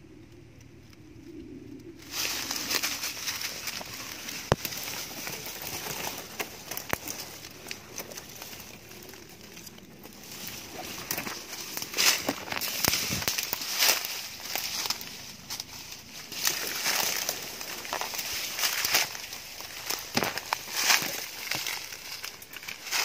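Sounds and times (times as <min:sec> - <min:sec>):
dry leaves crackling and rustling: 0:01.3 - 0:23.0
brushing through undergrowth: 0:02.0 - 0:23.0.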